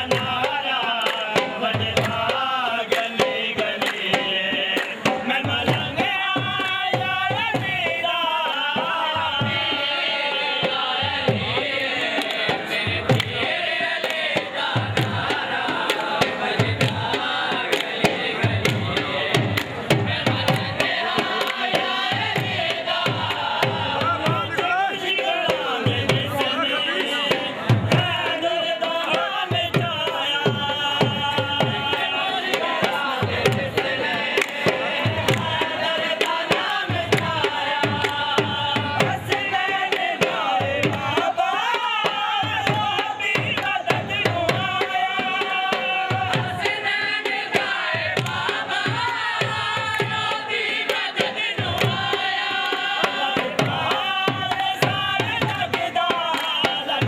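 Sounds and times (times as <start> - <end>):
dhol drum beating: 0.0 - 57.0.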